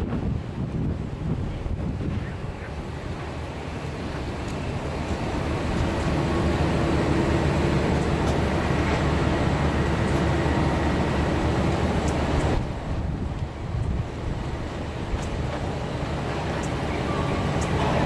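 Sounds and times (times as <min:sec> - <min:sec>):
truck diesel engines under load: 0:00.0 - 0:18.0.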